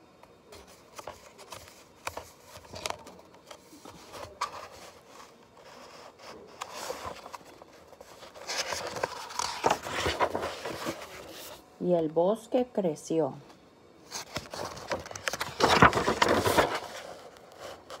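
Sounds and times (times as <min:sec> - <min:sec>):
page turning: 0:00.6 - 0:11.6, 0:14.1 - 0:18.0.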